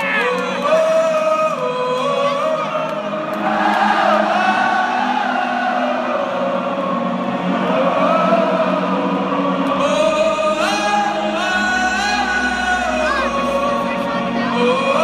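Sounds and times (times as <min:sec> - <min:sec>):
crowd singing along: 0:00.0 - 0:15.0
lead singer holding long notes: 0:00.0 - 0:15.0.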